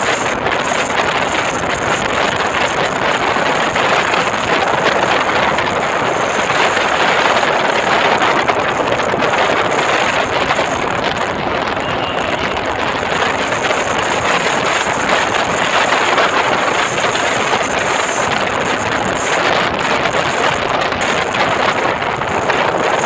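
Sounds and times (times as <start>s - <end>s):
vehicle and road noise: 0.0s - 23.0s
wind on microphone: 0.0s - 23.0s.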